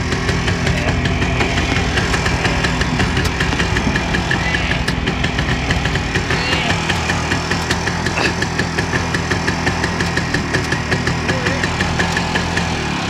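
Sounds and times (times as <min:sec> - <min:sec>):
two-stroke motorcycle engine running: 0:00.0 - 0:13.0.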